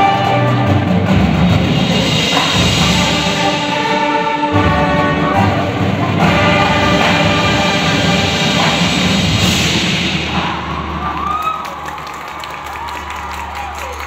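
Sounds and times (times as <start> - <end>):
low drums: 0.0 - 12.0
marching band brass chords: 0.0 - 14.0.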